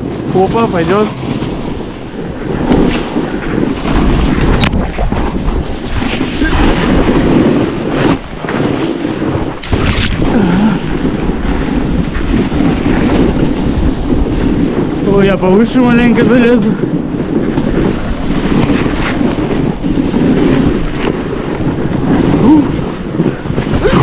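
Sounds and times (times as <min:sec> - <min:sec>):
snowboard scraping through snow: 0:00.0 - 0:24.0
wind buffeting microphone: 0:00.0 - 0:24.0.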